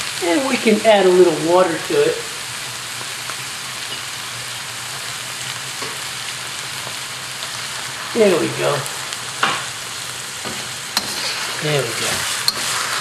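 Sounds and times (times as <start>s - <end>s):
fish frying in a pan: 0.0s - 13.0s
utensil stirring in a pan: 0.1s - 13.0s.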